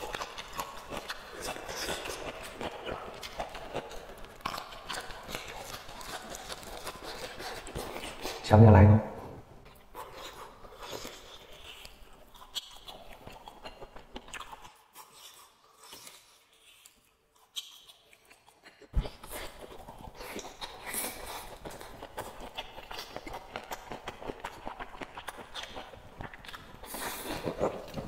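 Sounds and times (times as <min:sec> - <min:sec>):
man chewing steak: 0:00.0 - 0:08.4, 0:09.6 - 0:28.0.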